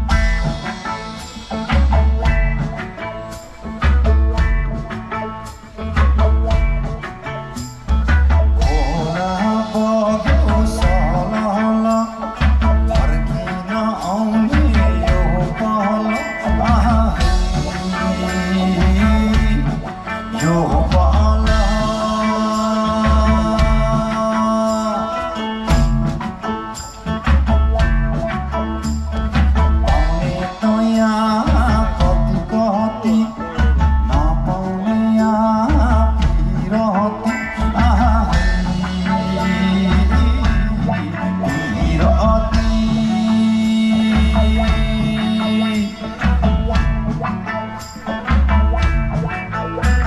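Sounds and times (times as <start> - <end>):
drum hits: 0.0 - 15.8, 16.5 - 24.6, 25.6 - 32.8, 37.6 - 50.0
band playing instrumental: 0.0 - 50.0.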